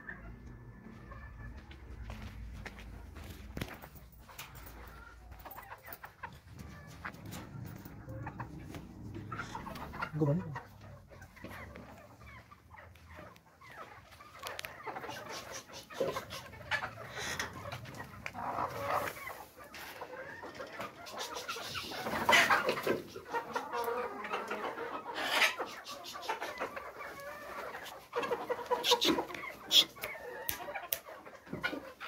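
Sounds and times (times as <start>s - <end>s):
hens clucking: 0.0s - 32.0s.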